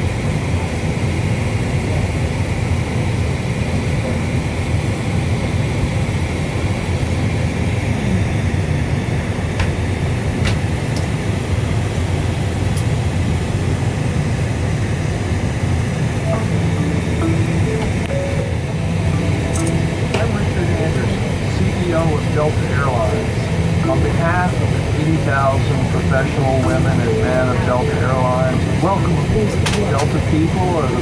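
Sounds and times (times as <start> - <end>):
aircraft cabin low rumble: 0.0 - 31.0.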